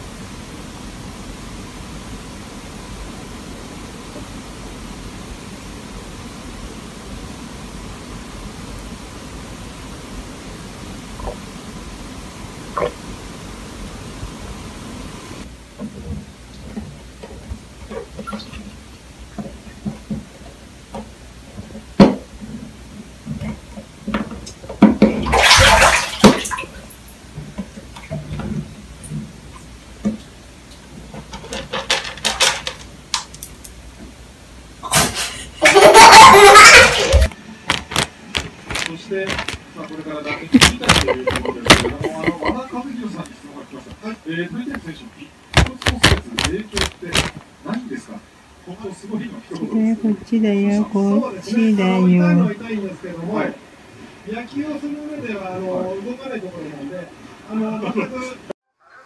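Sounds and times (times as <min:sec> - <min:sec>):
steady hiss: 0:00.0 - 0:35.7, 0:37.0 - 0:49.6.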